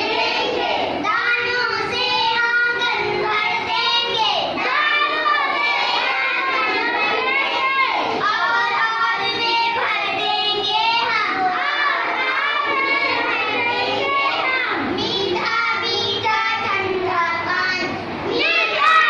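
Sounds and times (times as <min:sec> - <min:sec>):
girls chanting a poem: 0:00.0 - 0:19.0.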